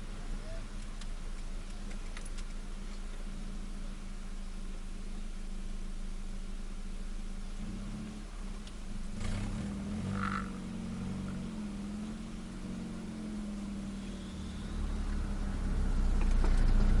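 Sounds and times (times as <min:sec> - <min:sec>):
car engine with raspy exhaust leak: 0:00.0 - 0:17.0.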